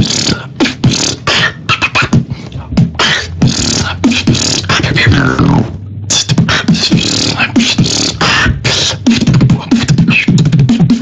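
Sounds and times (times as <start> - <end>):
person beatboxing: 0.0 - 11.0.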